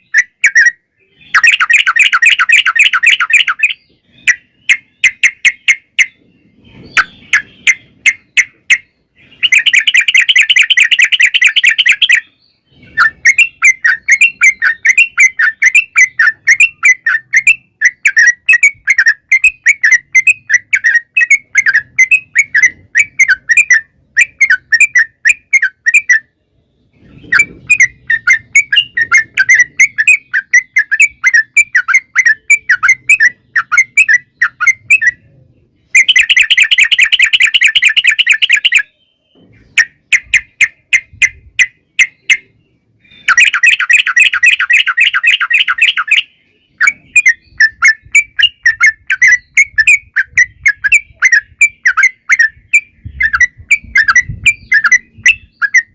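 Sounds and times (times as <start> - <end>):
bulbul singing with trills: 0.0 - 55.9.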